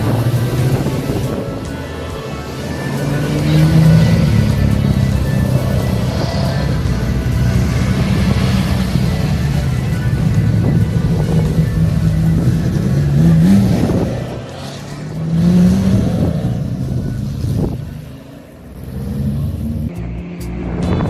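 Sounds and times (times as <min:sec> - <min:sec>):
racing car engines passing: 0:00.0 - 0:21.0.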